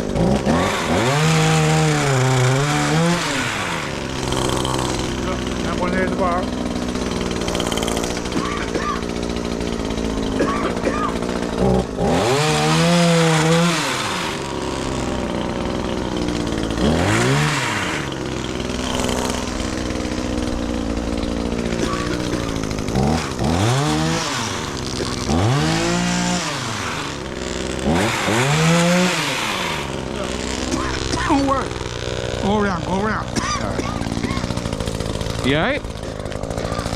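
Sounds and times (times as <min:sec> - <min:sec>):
chainsaw engine revving: 0:00.0 - 0:36.9.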